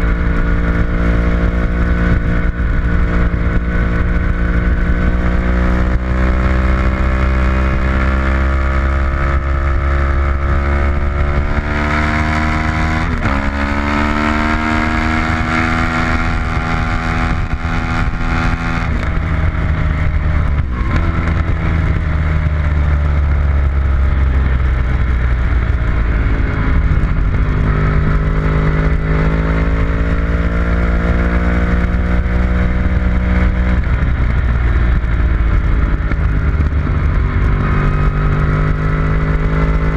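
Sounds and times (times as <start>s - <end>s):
race car engine at speed: 0.0s - 39.9s.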